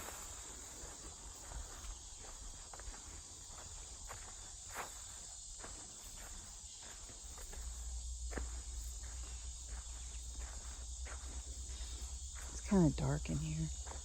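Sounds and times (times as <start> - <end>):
footsteps crunching on a trail: 0.0 - 14.0
insects chirping: 0.0 - 14.0.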